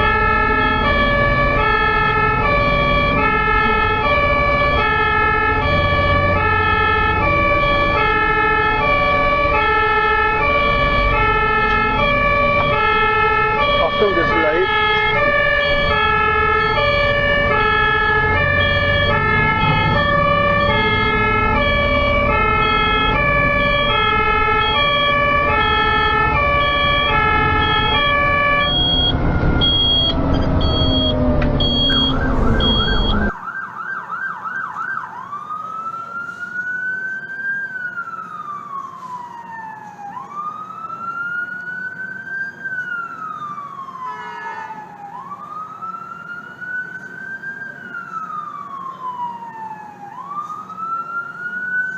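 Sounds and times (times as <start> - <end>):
road and engine noise: 0.0 - 51.9
two-tone ambulance siren: 0.0 - 51.9
wailing siren: 0.0 - 51.9.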